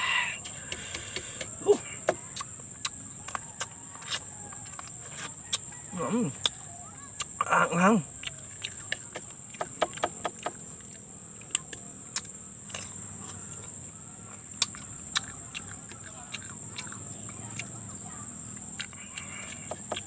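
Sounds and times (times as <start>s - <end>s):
fruit being bitten and chewed: 0.4s - 20.0s.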